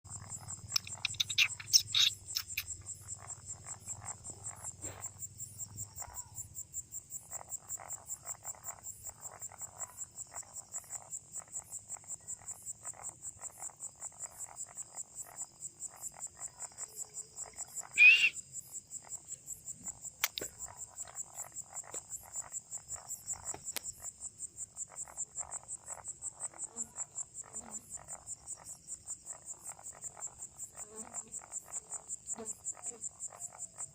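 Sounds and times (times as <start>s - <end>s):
crickets trilling: 0.1s - 33.9s
frogs calling: 0.1s - 33.9s.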